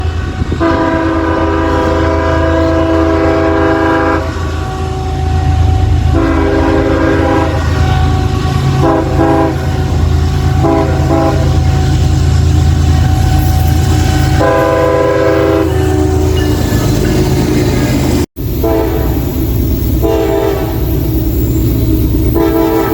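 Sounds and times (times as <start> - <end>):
locomotive air horn blasts: 0.0 - 16.8, 18.6 - 19.4, 20.0 - 21.0, 22.2 - 22.9
low train rumble: 0.0 - 22.9.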